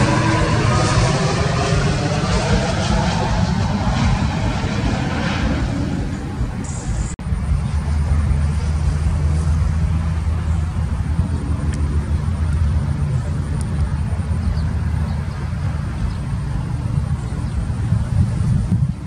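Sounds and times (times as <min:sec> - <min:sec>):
distant airliner rumble: 0:00.0 - 0:19.0.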